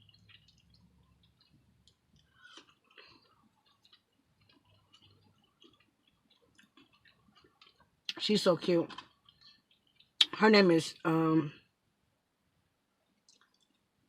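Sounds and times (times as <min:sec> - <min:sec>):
person chewing food: 0:00.0 - 0:10.4, 0:13.0 - 0:14.0.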